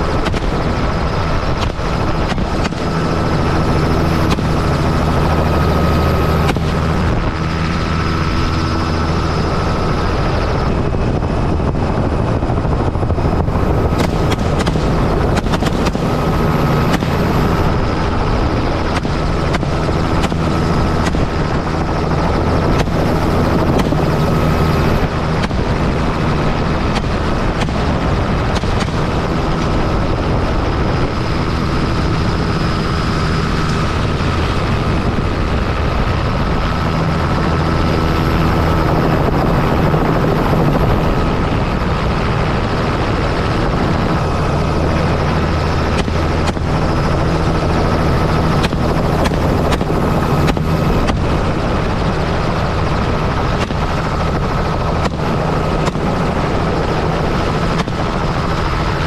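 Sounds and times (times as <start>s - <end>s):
helicopter rotor and engine din: 0.0s - 59.0s.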